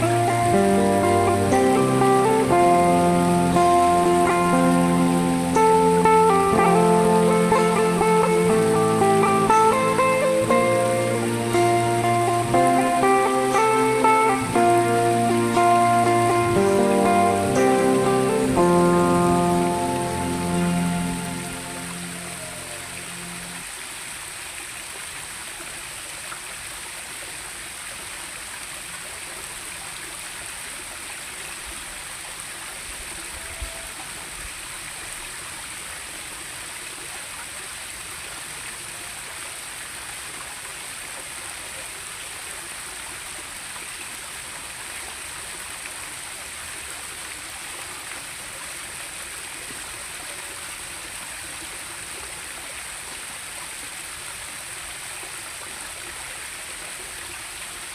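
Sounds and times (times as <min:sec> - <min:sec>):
flowing water rushing: 0:00.0 - 0:57.9.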